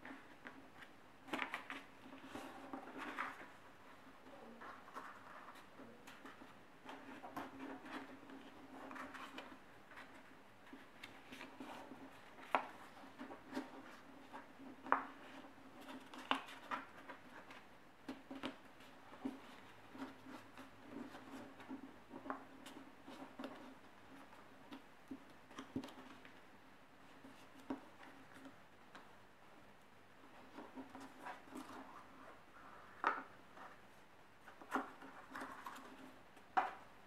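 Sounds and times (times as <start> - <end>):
paper rustling and crinkling: 0.0 - 26.4, 30.4 - 36.9
faint steady hum: 0.0 - 37.0.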